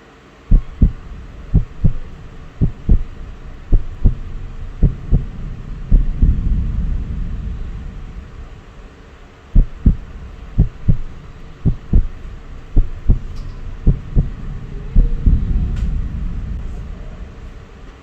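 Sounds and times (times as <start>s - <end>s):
heartbeat thumps: 0.5s - 18.0s
low hum: 0.5s - 18.0s.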